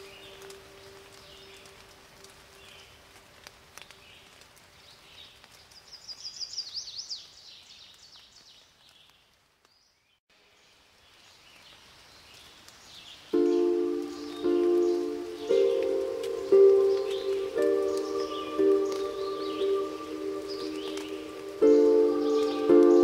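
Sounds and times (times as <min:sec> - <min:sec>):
songbird chirps: 0:00.0 - 0:03.1, 0:03.8 - 0:23.0.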